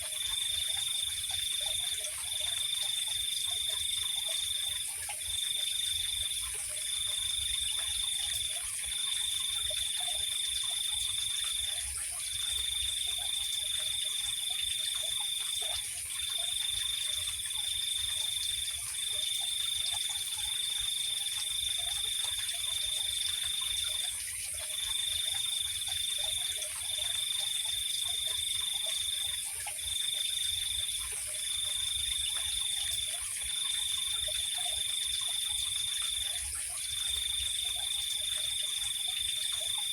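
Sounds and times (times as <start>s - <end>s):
faint lower insect calls: 0.0s - 39.9s
high pure insect trill: 0.0s - 39.9s.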